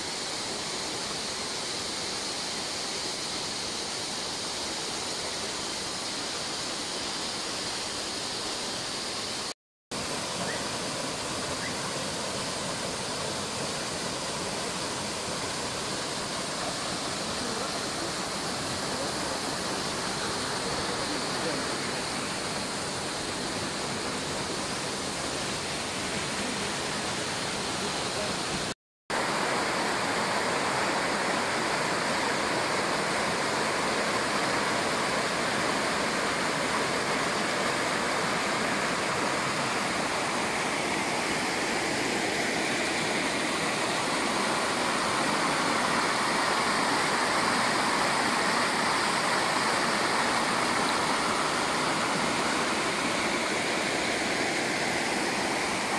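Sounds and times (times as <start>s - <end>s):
waterfall splashing over rocks: 0.0s - 55.9s.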